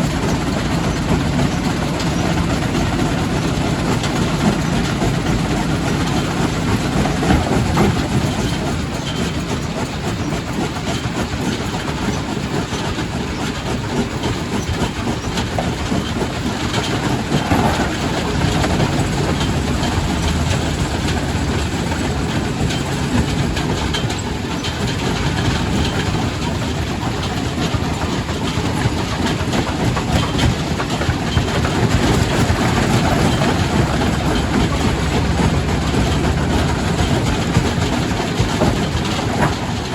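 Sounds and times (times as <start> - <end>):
rock crusher rumbling: 0.0 - 10.0, 14.3 - 39.9.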